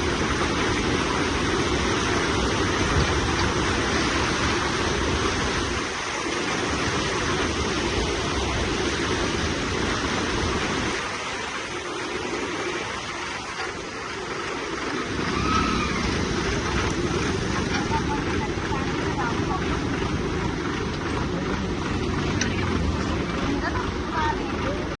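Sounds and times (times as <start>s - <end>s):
steady rushing noise: 0.0s - 25.0s
vehicle running noise: 0.0s - 25.0s.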